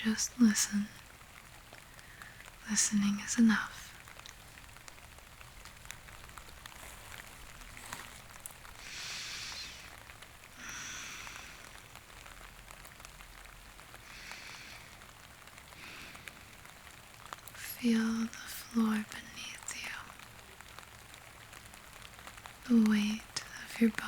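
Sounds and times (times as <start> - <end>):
soft hissing swells: 0.0 - 20.2
rain falling on a surface: 0.0 - 24.0.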